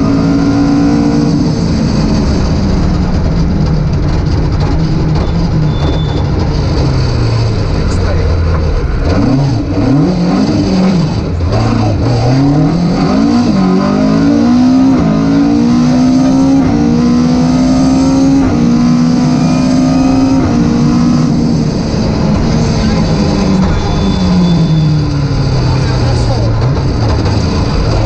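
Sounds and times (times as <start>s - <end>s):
car engine accelerating through gears: 0.0s - 28.0s.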